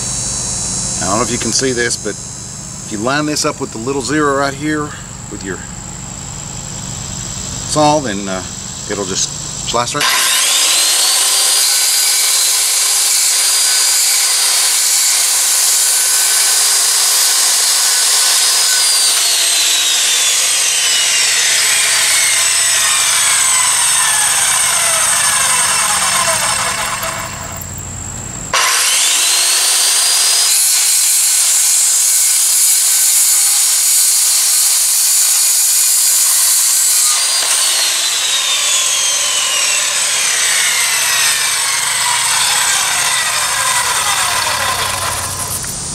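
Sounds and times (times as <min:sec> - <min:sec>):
circular saw cutting wood: 0:00.0 - 0:02.2, 0:07.2 - 0:45.9.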